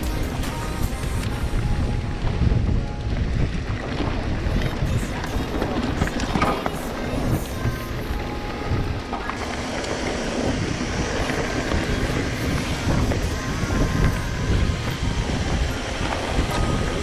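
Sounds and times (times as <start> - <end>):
bike tyres rolling on gravel: 0.0 - 17.0
wind buffeting microphone: 0.0 - 17.0.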